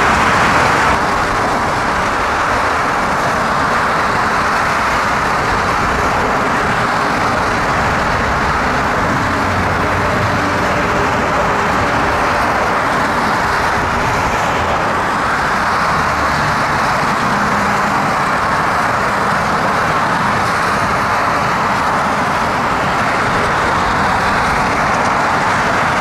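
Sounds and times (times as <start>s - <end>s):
road traffic hum: 0.0s - 26.0s
trains rolling on tracks: 0.0s - 26.0s.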